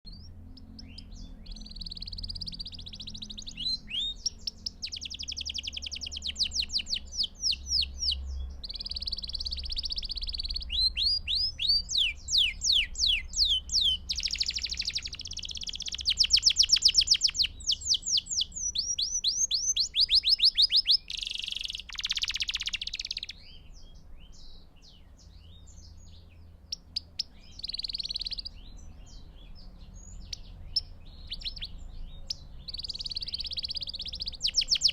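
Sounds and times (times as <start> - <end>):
canary singing trills: 0.0 - 34.9.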